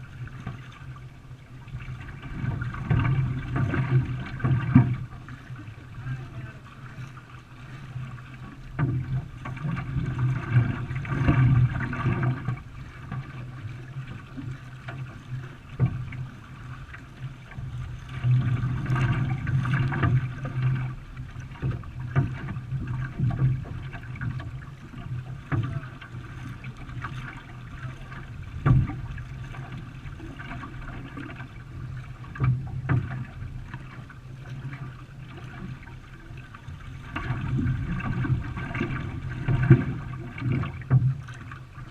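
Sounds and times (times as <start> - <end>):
water splashing around canoe: 0.0 - 41.9.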